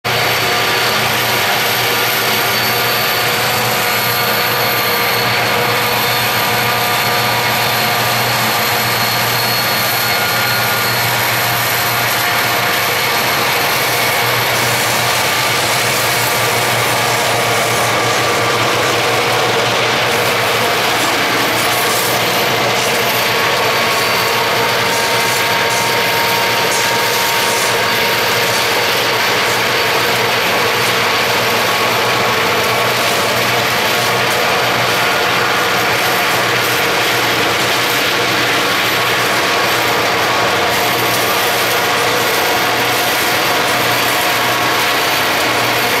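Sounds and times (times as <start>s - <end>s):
rushing noise: 0.1s - 46.0s.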